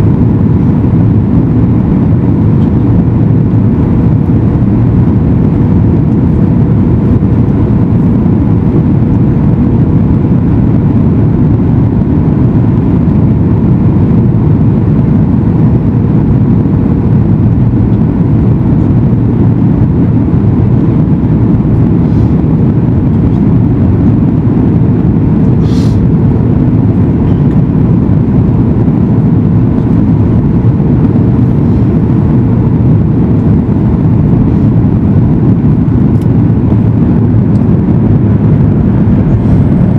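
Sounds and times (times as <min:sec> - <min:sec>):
airliner engine rumble: 0:00.0 - 0:39.9
faint steady hum: 0:00.0 - 0:39.9
rushing air: 0:00.0 - 0:39.9.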